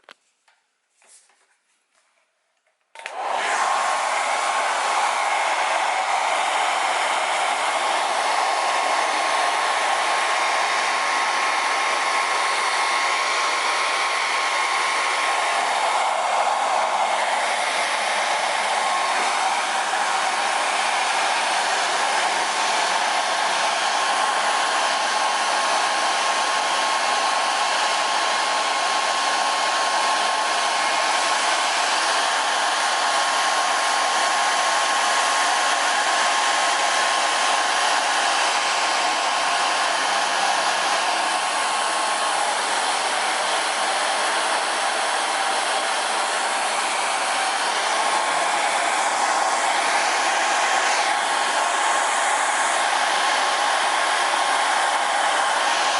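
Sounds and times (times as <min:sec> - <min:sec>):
hair dryer blowing: 0:02.9 - 0:55.9.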